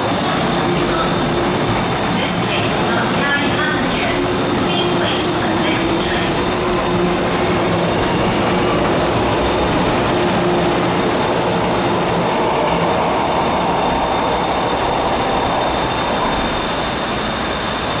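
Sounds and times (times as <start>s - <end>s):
train passing at speed: 0.0s - 18.0s.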